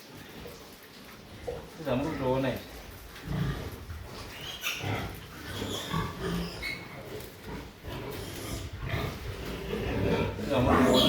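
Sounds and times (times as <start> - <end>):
pigs calling: 0.3 - 11.0.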